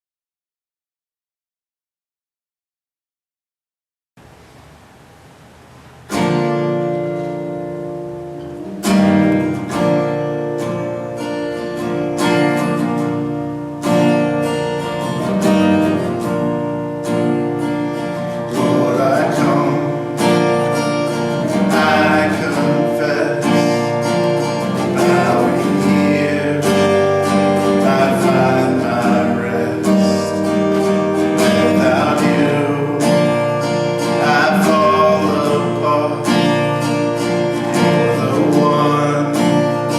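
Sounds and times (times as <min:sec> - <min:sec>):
acoustic guitar strumming chords: 0:04.2 - 0:39.9.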